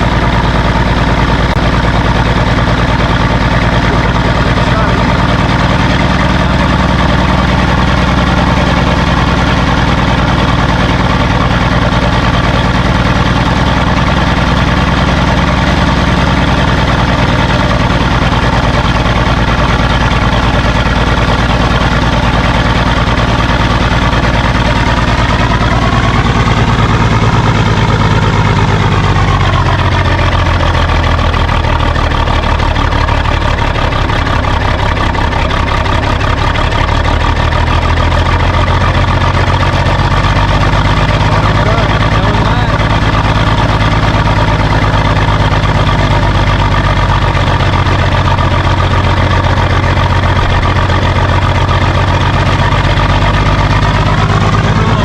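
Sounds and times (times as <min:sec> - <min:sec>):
diesel engine running and revving: 0:00.0 - 0:55.0.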